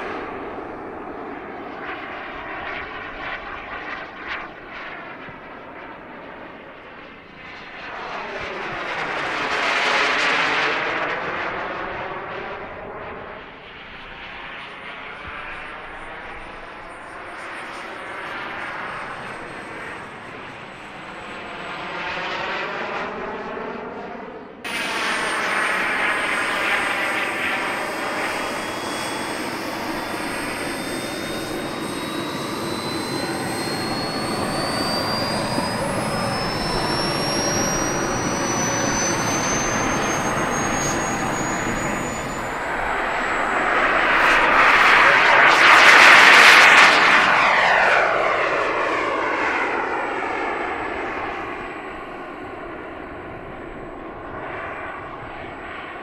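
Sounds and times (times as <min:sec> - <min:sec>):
model jet low pass: 0:00.0 - 0:56.0
model jet taking off: 0:00.0 - 0:56.0
turbine whine: 0:00.0 - 0:56.0.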